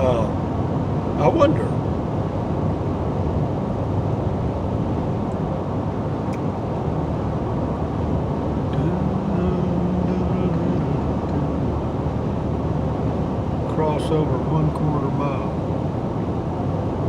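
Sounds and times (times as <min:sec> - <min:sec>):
low engine hum: 0:00.0 - 0:17.0
road and engine rumble in vehicle cab: 0:00.0 - 0:17.0.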